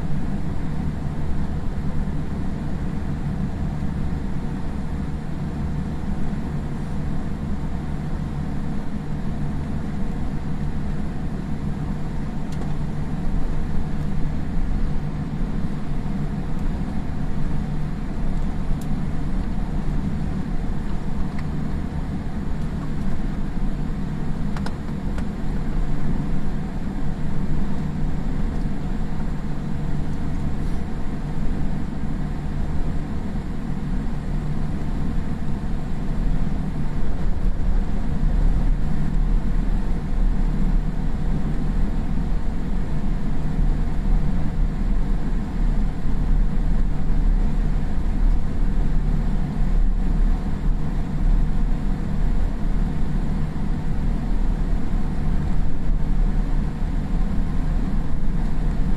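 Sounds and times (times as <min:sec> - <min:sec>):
aircraft cabin low rumble: 0:00.0 - 0:58.9
faint constant hum: 0:00.0 - 0:58.9.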